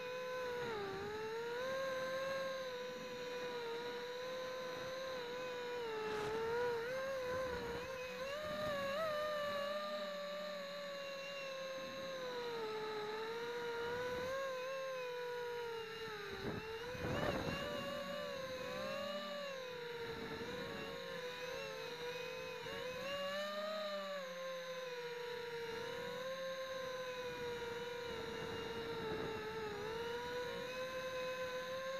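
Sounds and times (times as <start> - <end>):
quadcopter motors whining: 0.0 - 31.9.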